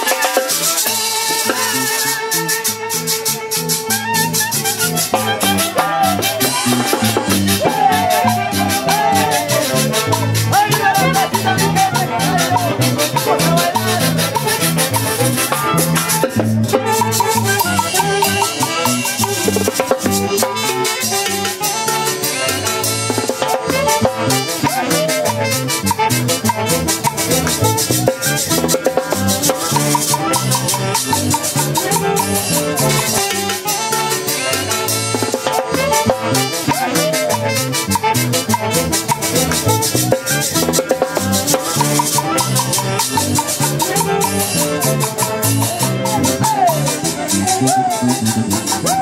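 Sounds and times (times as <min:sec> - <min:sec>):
latin dance band music: 0:00.0 - 0:49.0.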